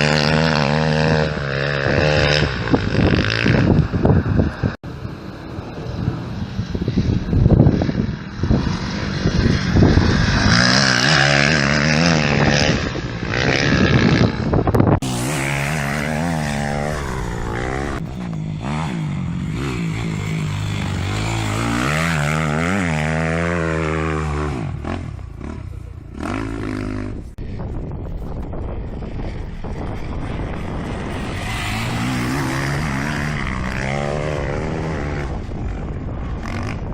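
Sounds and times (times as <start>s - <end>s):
motocross bike engine revving: 0.0s - 4.8s, 7.9s - 27.4s, 30.0s - 36.9s.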